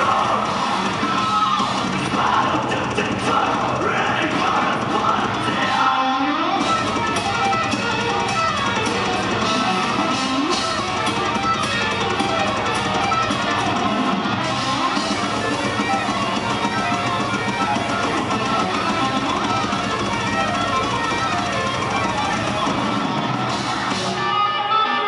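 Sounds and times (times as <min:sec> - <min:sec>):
heavy metal band playing: 0:00.0 - 0:25.0.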